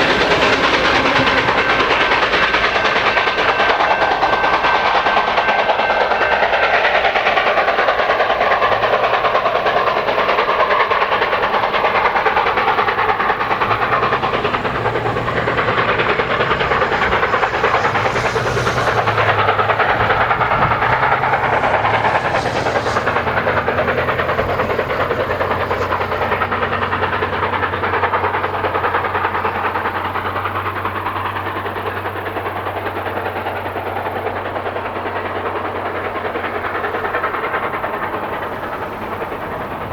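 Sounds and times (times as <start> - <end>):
steam train rolling on rails: 0.0 - 39.9.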